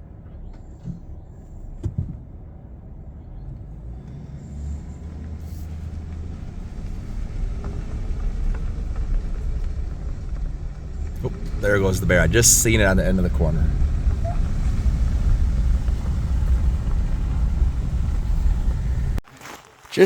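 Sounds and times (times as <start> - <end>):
vehicle engine and road noise: 0.0 - 19.3.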